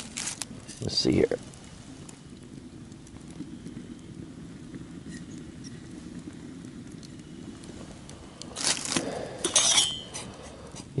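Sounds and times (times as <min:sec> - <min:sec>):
water boiling in kettle: 0:00.0 - 0:11.0.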